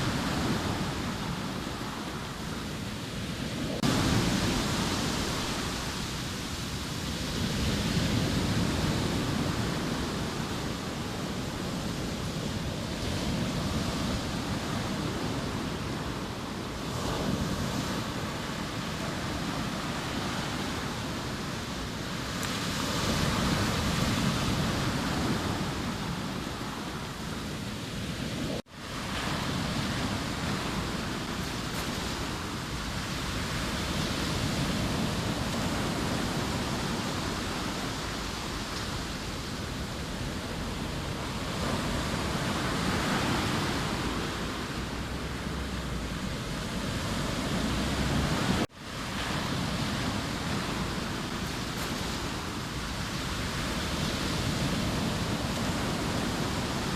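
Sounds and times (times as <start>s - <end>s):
sea waves breaking on shore: 0.0s - 56.9s.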